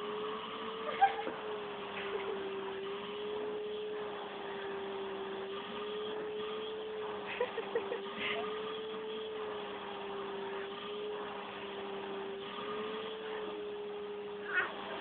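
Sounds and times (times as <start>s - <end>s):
vacuum cleaner motor humming: 0.0s - 15.0s.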